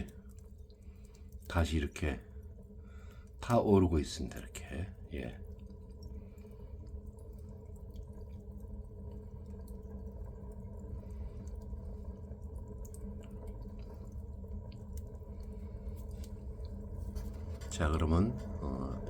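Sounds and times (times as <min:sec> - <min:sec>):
steady low hum: 0:00.0 - 0:19.0
wood fire crackling in stove: 0:00.0 - 0:19.0.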